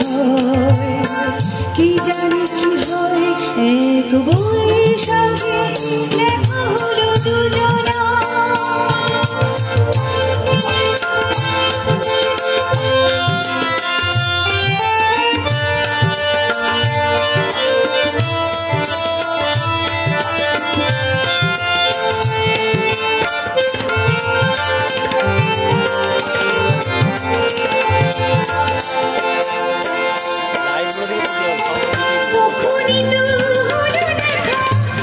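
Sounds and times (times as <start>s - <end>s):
held melodic instrument lines: 0.0s - 35.0s.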